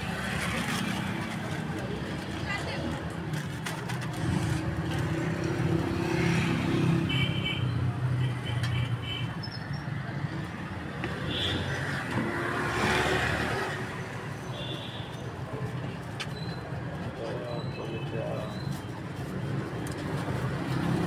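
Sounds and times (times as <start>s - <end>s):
passing traffic rush: 0.0s - 21.0s.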